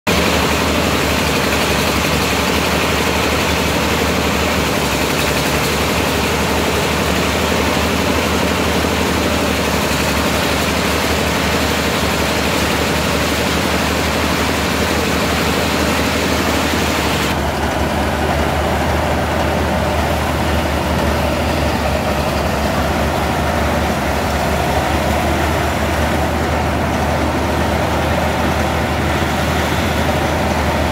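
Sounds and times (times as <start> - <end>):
rice thresher running: 0.1 - 30.9.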